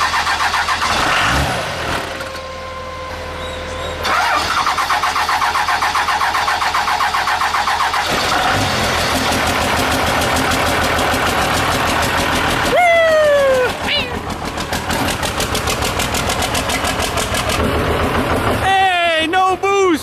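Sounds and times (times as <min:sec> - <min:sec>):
starter cranking diesel engine: 0:00.0 - 0:02.6, 0:04.0 - 0:18.9
diesel engine running: 0:00.0 - 0:20.0.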